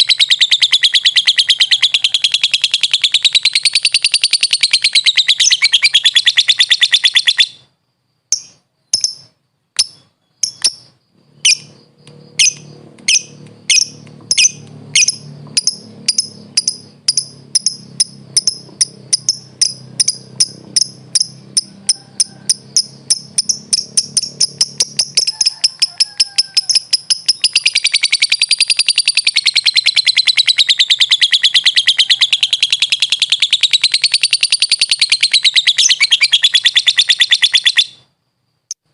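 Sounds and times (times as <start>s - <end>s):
lovebird chattering trill: 0.0s - 7.7s, 8.3s - 38.1s
bird chirps: 0.0s - 38.9s.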